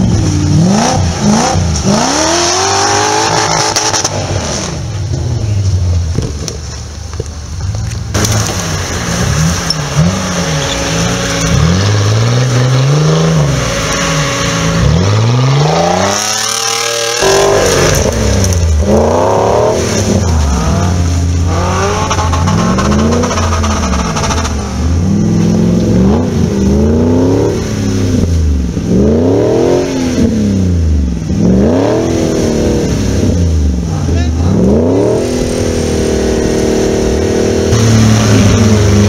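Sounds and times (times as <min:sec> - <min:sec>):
engine revving hard: 0:00.0 - 0:04.7, 0:08.2 - 0:33.6, 0:34.2 - 0:39.0.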